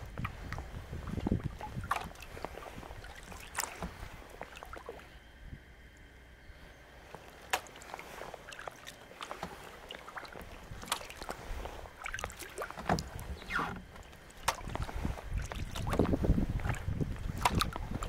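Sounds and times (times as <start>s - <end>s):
kayak paddle splashes: 0.0s - 5.2s, 7.0s - 18.0s
water dripping off paddle: 0.2s - 5.1s, 7.2s - 18.0s.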